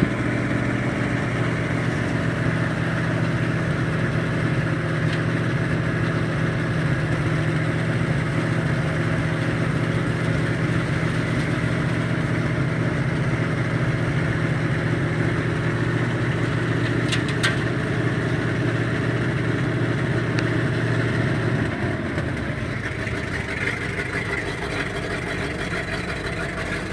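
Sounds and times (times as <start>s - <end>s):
truck engine running: 0.0s - 26.9s.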